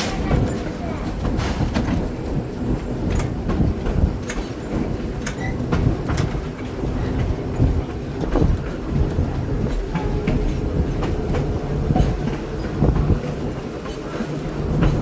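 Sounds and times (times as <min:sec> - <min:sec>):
trolley car rumbling: 0:00.0 - 0:15.0
wheels clicking over rail joints: 0:00.0 - 0:15.0.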